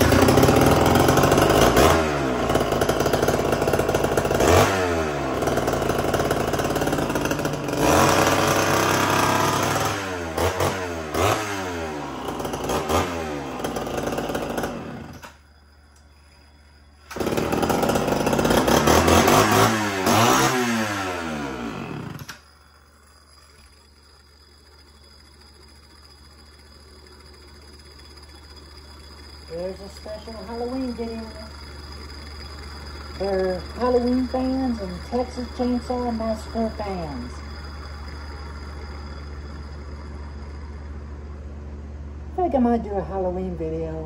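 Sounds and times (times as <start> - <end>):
chainsaw revving: 0.0 - 15.4, 17.0 - 22.5, 23.3 - 41.0.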